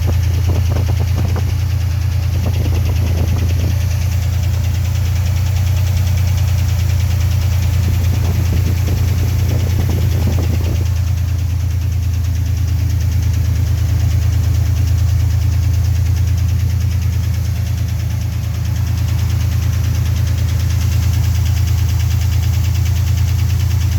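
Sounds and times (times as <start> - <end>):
engine idling with fast knock: 0.0 - 23.9.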